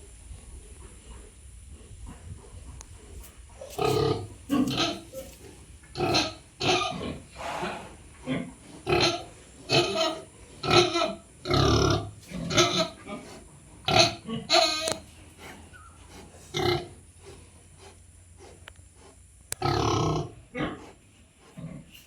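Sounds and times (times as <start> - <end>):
pigs grunting: 3.1 - 22.0.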